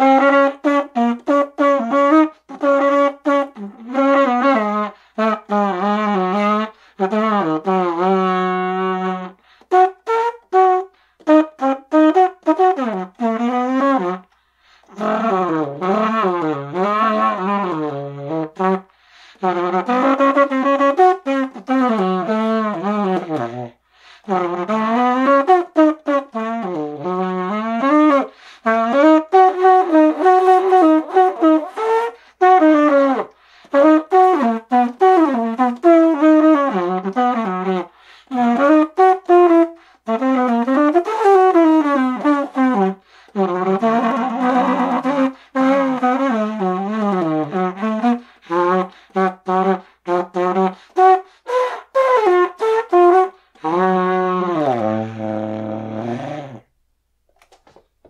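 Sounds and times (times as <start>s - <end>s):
saxophone jazz melody: 0.0s - 56.8s.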